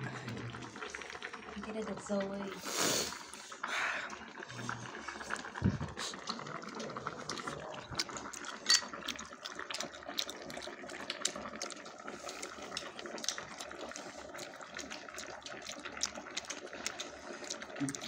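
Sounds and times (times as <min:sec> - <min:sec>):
broth boiling in a pot: 0:00.0 - 0:18.0.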